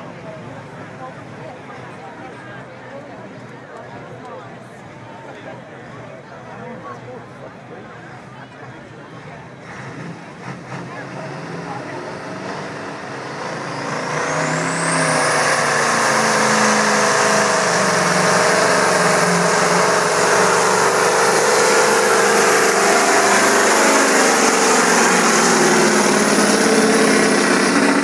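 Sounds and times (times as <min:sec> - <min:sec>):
diesel truck engine at full power: 0:00.0 - 0:28.0.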